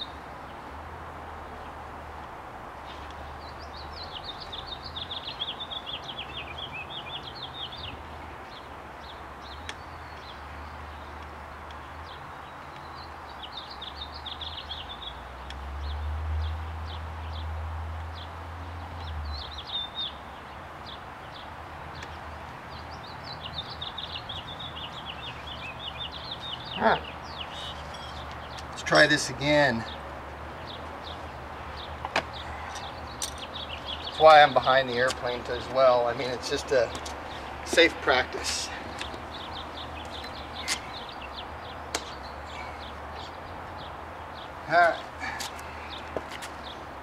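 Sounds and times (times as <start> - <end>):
songbird chirping trills: 3.0 - 47.0.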